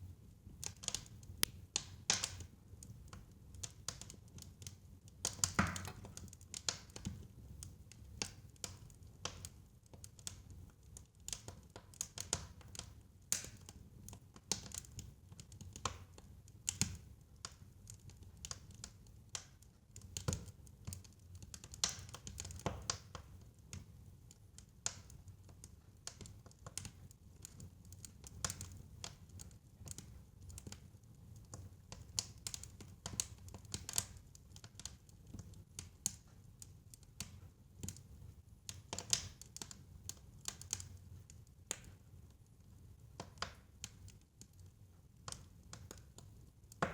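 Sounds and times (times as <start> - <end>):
fire crackling and popping: 0.4 - 46.9.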